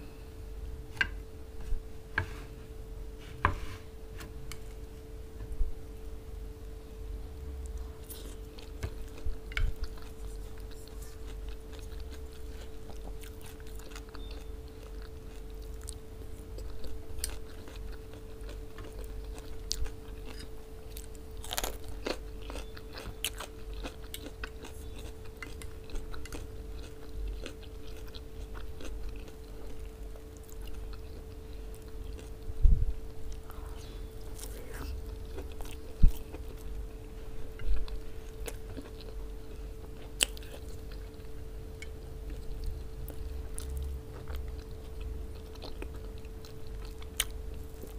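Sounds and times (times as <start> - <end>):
faint hum: 0.0 - 47.9
wet chewing and crunchy bites: 7.7 - 32.5, 34.2 - 47.9.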